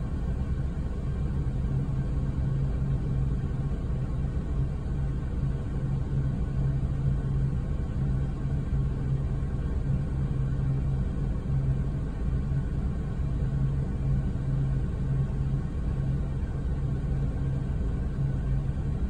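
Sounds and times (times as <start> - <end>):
intermittent low hum: 0.0 - 19.0
steady low rumble: 0.0 - 19.0.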